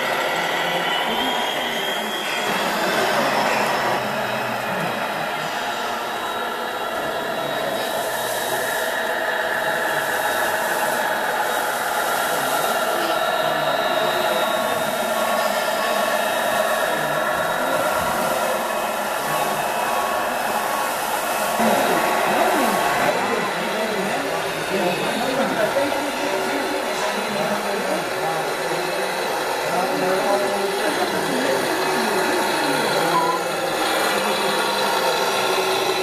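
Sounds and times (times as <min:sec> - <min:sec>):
model trucks whirring drone: 0:00.0 - 0:36.0.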